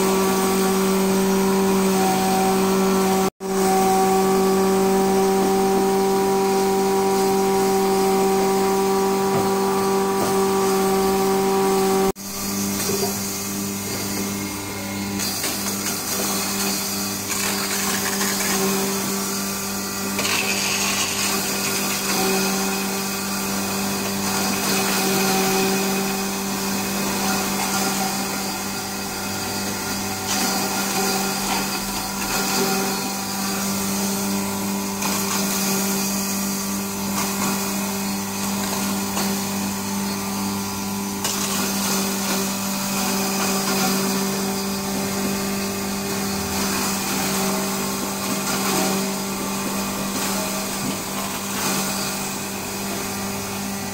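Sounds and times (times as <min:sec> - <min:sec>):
grinding mill humming: 0:00.0 - 0:53.9.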